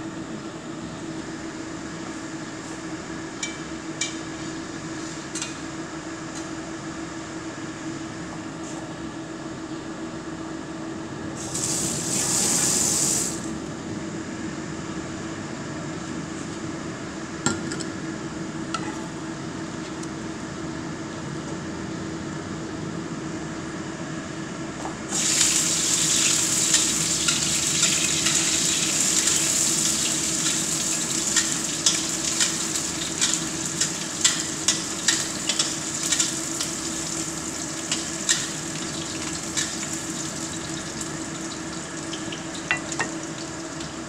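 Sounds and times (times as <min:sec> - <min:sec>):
range hood fan humming: 0:00.0 - 0:44.0.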